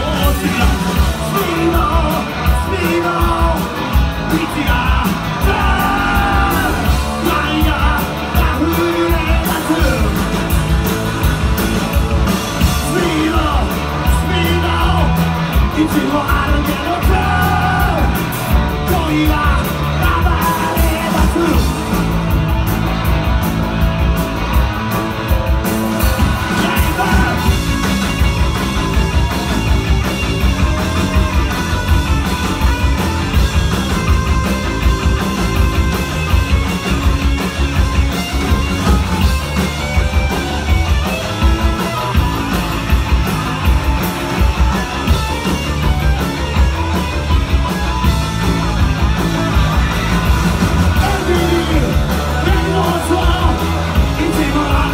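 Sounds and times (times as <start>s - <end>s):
rock band playing live: 0.0s - 54.9s.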